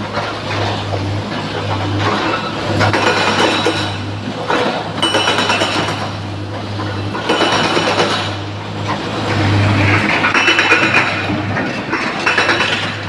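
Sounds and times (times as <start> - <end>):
excavator diesel engine humming: 0.0 - 13.0.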